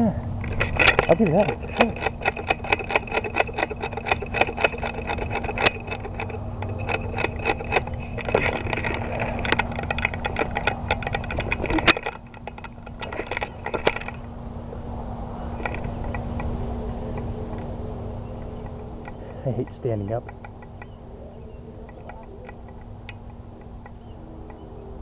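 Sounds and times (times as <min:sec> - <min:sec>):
gear clicking and rattling: 0:00.4 - 0:24.7.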